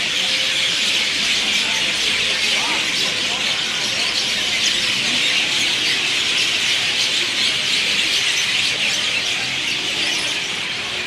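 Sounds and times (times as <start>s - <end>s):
dense chorus of birds chirping: 0.0s - 11.0s.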